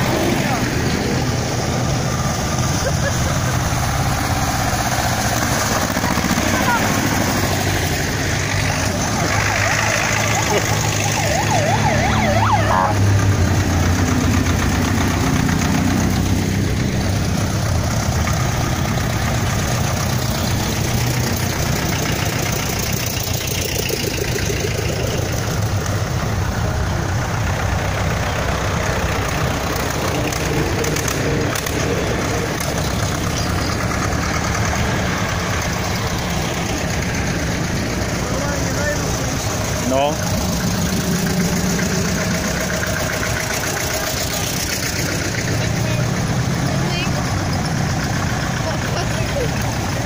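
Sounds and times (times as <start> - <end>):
tractor diesel engines knocking: 0.0 - 50.0.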